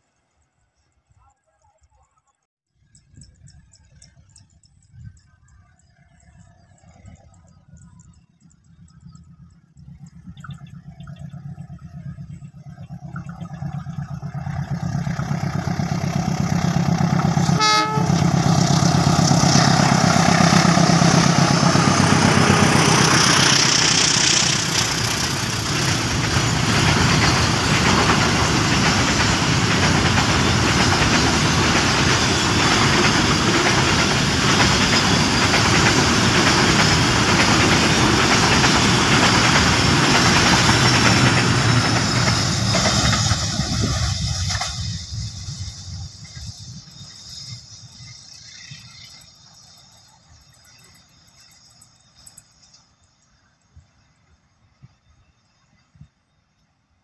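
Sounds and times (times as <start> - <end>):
locomotive engine drone: 2.9 - 52.4
train wheels rumbling on rails: 3.0 - 52.8.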